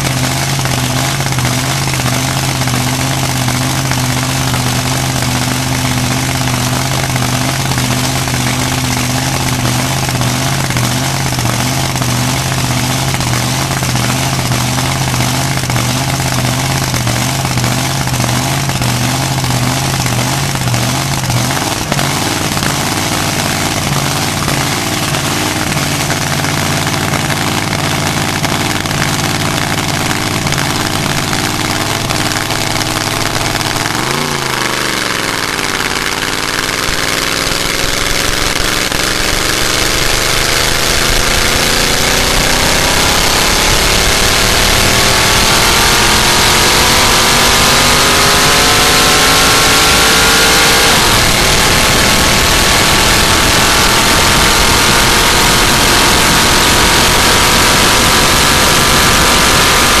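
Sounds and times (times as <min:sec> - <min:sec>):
racing engine accelerating: 0:00.0 - 1:00.0.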